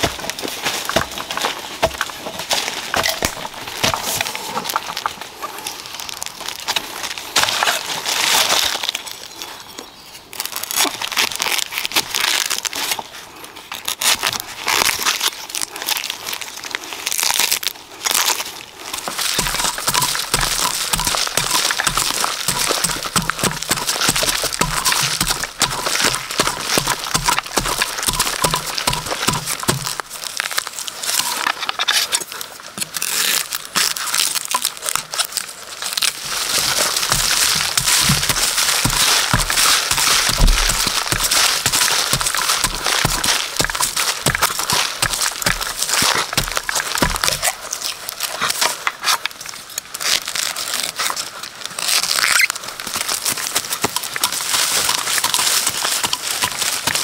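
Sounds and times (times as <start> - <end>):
dry leaves and twigs crunching: 0.0 - 57.0.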